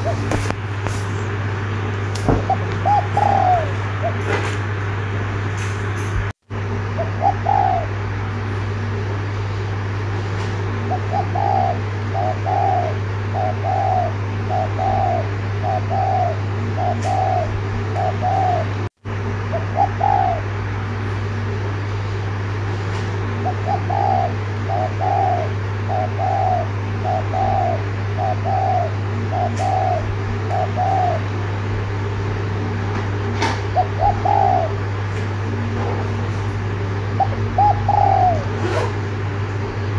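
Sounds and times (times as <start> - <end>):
dove cooing: 0.0 - 0.6, 2.2 - 4.8, 6.8 - 9.8, 10.6 - 39.9
steady low hum: 0.0 - 39.9.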